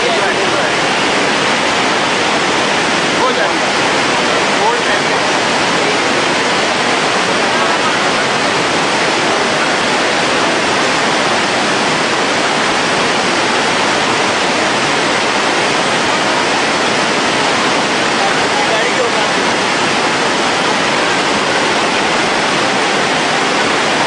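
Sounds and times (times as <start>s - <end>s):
river in flood rushing: 0.0s - 24.0s.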